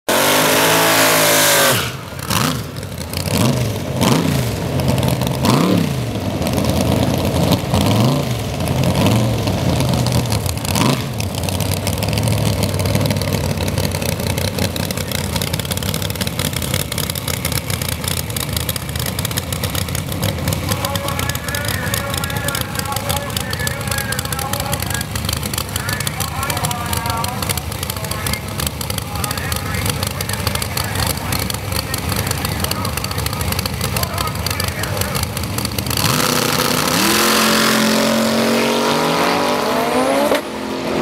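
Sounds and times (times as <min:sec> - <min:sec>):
supercharged engine revving and idling: 0:00.1 - 0:41.0.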